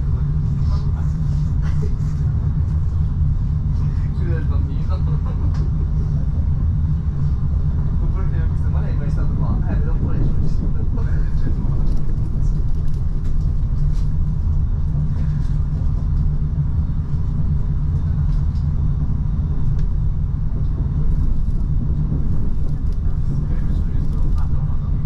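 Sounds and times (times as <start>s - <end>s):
train rumble inside cabin: 0.0s - 25.0s.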